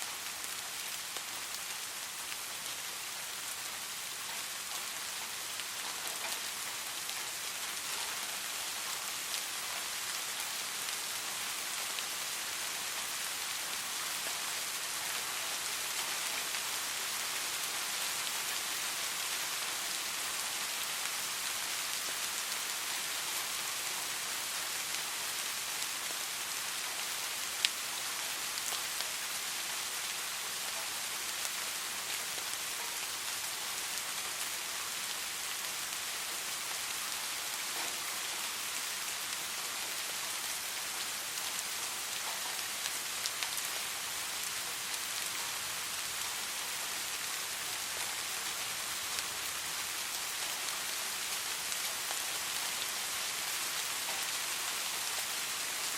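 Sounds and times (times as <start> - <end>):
soft rain hissing: 0.0 - 55.9
raindrops ticking on a surface: 0.1 - 55.9.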